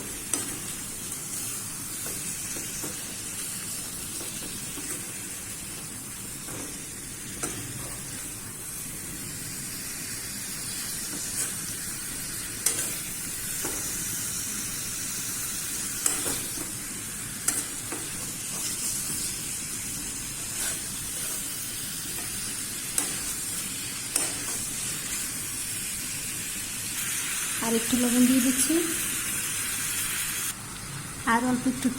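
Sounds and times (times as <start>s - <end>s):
food sizzling in oil: 0.0s - 31.9s.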